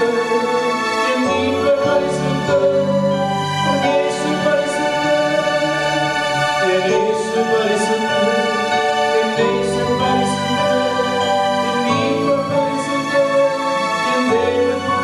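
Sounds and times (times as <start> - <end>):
electric keyboard chords: 0.0 - 15.0
person singing: 0.0 - 15.0.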